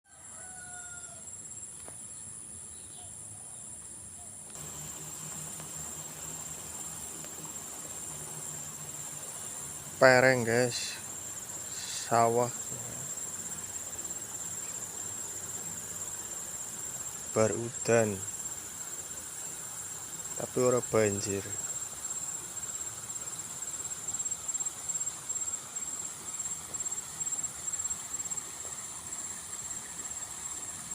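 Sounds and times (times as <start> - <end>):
insects chirping: 0.1 - 30.9.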